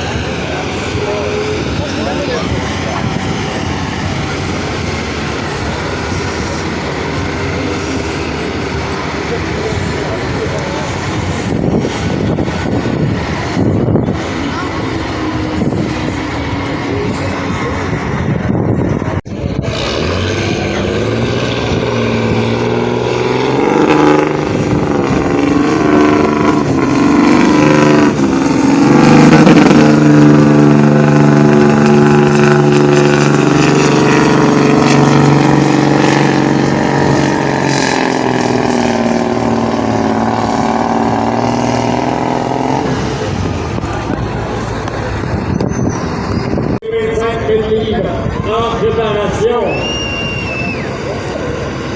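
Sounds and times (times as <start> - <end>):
tractor engine under load: 0.0 - 49.6.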